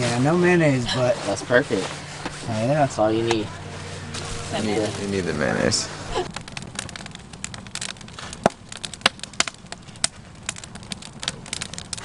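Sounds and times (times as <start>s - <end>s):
campfire crackling and popping: 0.0s - 12.0s
low steady rumble: 0.0s - 12.0s.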